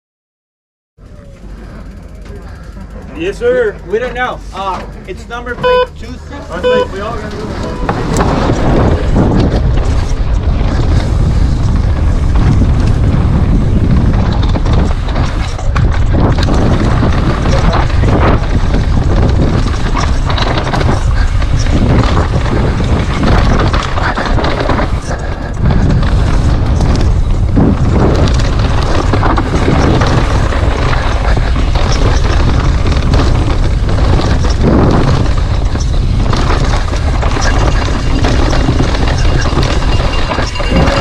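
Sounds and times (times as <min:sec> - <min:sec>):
bike knocking and rattling: 0:01.0 - 0:41.0
wind buffeting microphone: 0:04.6 - 0:41.0.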